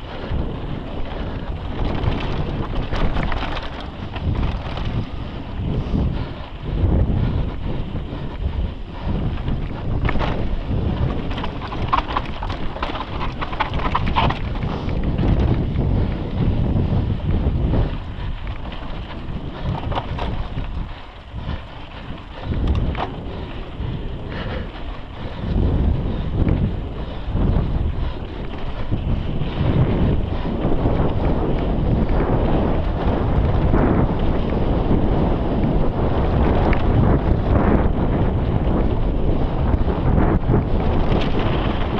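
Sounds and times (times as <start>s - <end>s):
bike clicks and rattles: 0.0s - 41.9s
bike tyres rumbling on dirt: 0.0s - 41.9s
wind buffeting microphone: 0.0s - 41.9s.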